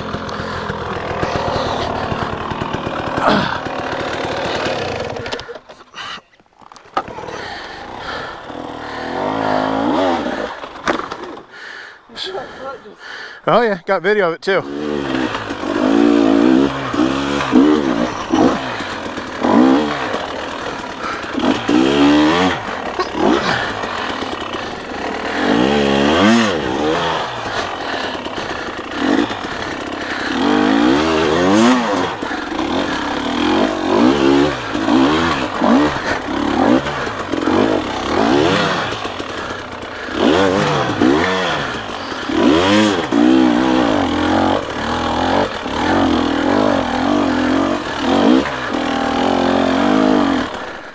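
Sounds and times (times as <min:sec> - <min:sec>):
dirt bike engine revving: 0:00.0 - 0:05.8, 0:06.8 - 0:12.8, 0:14.6 - 0:50.9.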